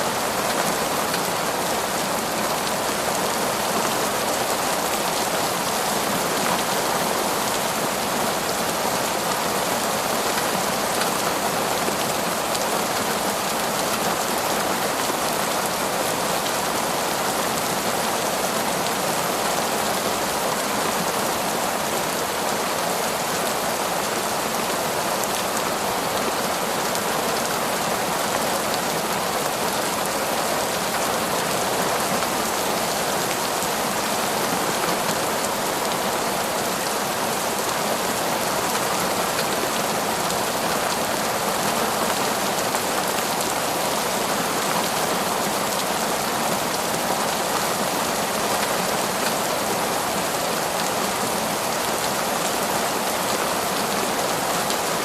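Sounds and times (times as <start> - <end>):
heavy rain on leaves: 0.0 - 55.0.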